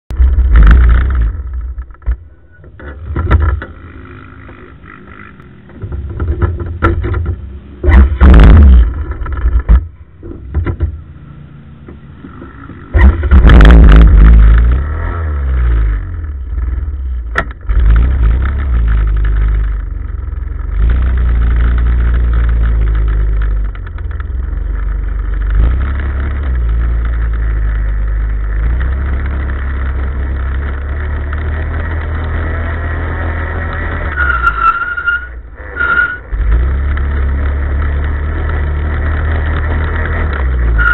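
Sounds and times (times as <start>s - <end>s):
off-road vehicle engine running: 0.1s - 40.9s.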